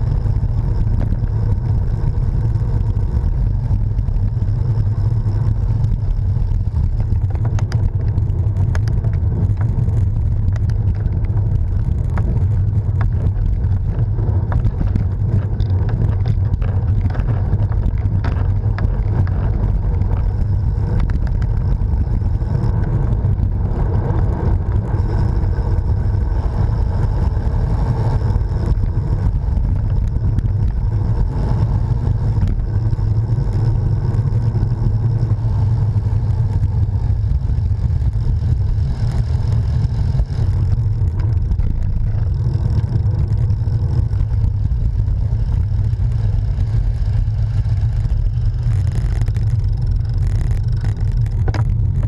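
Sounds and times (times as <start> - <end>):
bicycle tyre road noise: 0.0 - 52.0
wind buffeting microphone: 0.0 - 52.0.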